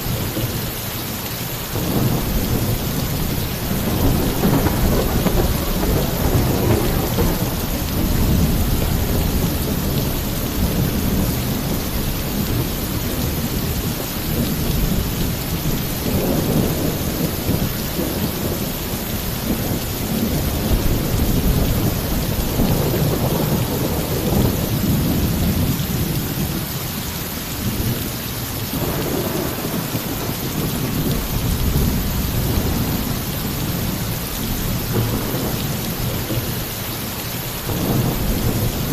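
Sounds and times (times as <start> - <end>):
heavy rain on a roof: 0.0 - 38.9
rolling thunder: 1.7 - 26.7, 28.7 - 36.8, 37.5 - 38.9.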